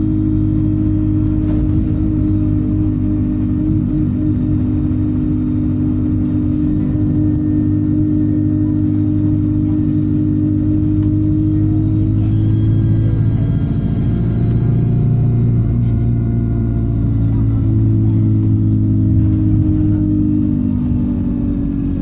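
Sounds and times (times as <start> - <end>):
bus diesel engine running: 0.0 - 22.0
turbocharger whine: 0.0 - 22.0.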